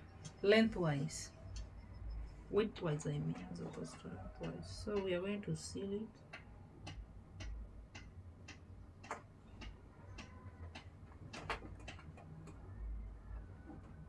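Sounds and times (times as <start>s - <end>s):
faint low room hum: 0.0s - 14.0s
steady ticking: 0.0s - 14.0s.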